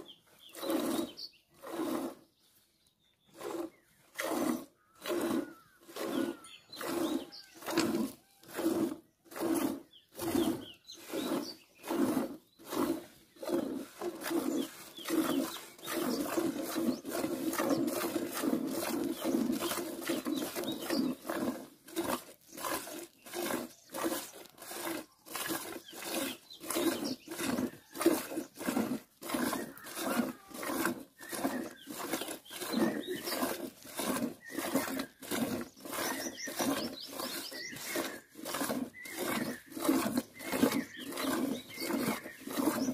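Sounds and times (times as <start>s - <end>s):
milk squirting into a steel pail: 0.5s - 2.3s, 3.4s - 42.9s.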